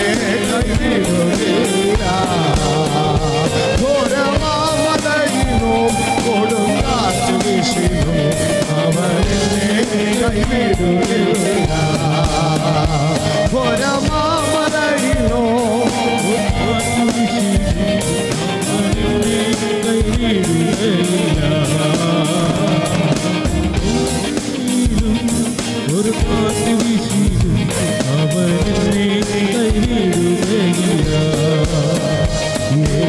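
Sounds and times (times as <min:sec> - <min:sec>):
person singing: 0:00.0 - 0:33.0
worship song accompaniment: 0:00.0 - 0:33.0.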